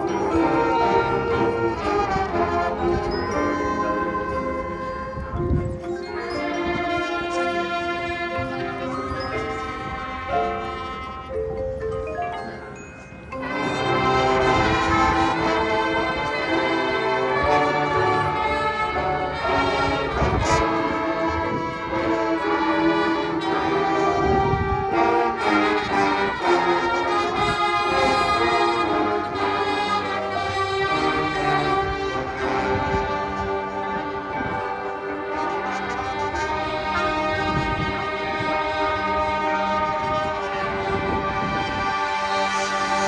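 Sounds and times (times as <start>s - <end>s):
marching band brass chords: 0.0s - 5.3s, 6.3s - 11.3s, 13.4s - 43.0s.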